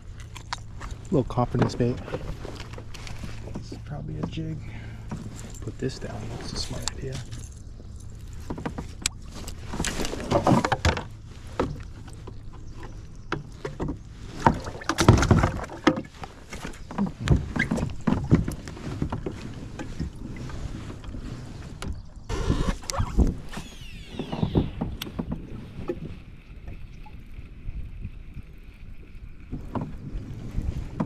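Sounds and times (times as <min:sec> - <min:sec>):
water sloshing: 0:00.0 - 0:31.0.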